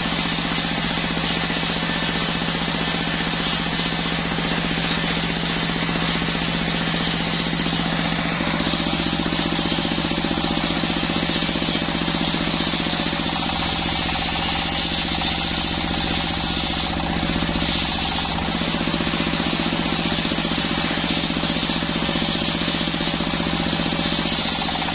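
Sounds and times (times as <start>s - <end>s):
sawmill rapid knocking pulse: 0.0s - 24.9s
high saw blade whine: 2.0s - 24.9s.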